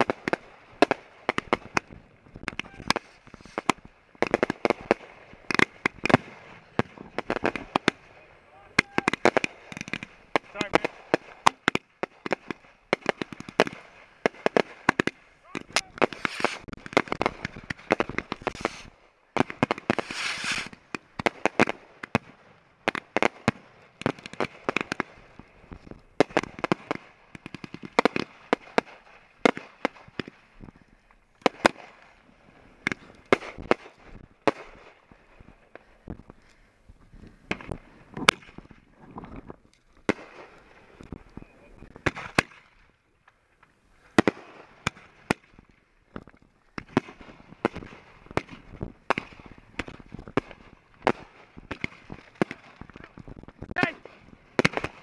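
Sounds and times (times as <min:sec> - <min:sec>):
fireworks bangs and crackles: 0:00.0 - 0:43.0, 0:44.0 - 0:55.0.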